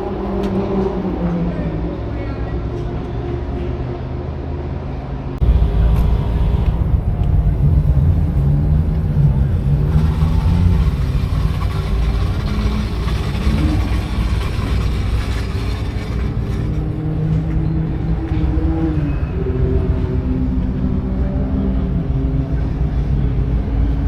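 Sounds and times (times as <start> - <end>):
racing car engines running: 0.0 - 24.0.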